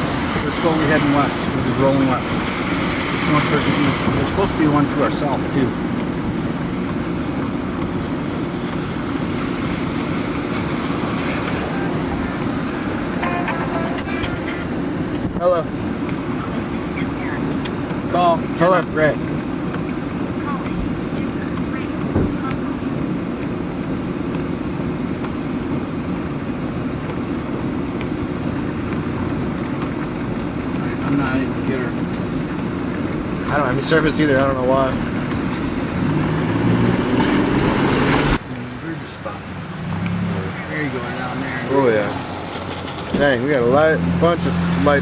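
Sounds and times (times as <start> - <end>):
car rumble from inside cabin: 0.0 - 45.0.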